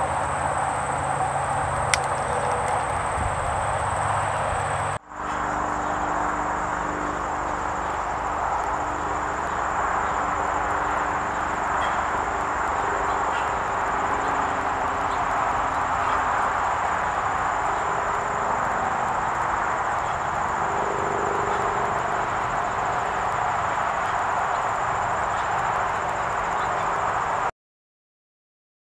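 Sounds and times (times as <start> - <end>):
high-pitched insect drone: 0.0 - 27.5.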